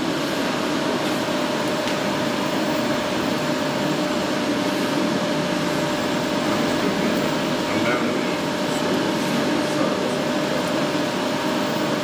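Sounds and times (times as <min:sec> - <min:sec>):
printer mechanical whir: 0:00.0 - 0:12.0.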